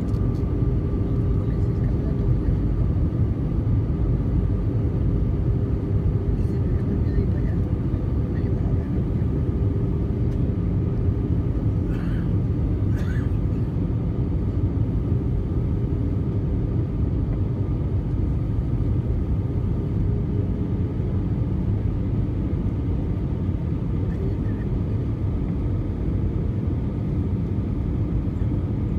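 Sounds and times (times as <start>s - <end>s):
airplane cabin roar: 0.0s - 28.9s.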